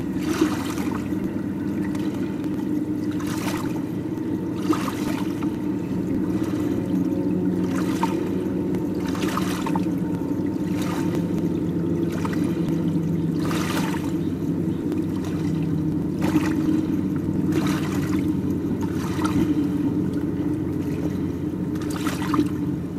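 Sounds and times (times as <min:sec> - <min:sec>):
underwater low hum: 0:00.0 - 0:22.9.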